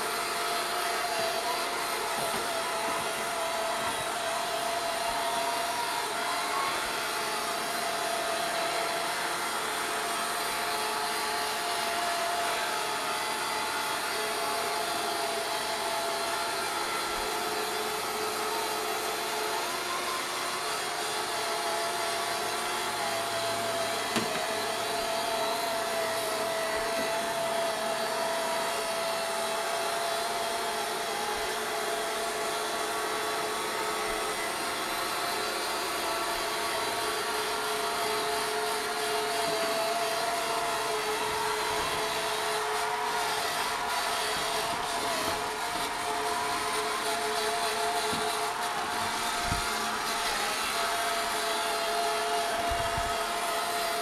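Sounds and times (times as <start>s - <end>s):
robot vacuum motor whirring: 0.0s - 54.0s.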